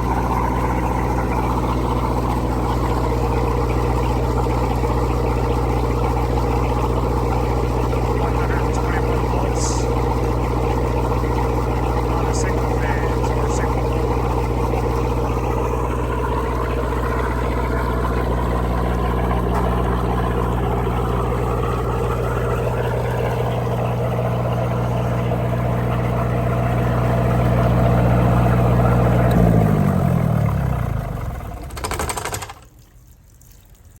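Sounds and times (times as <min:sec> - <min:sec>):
diesel generator running: 0:00.0 - 0:34.0.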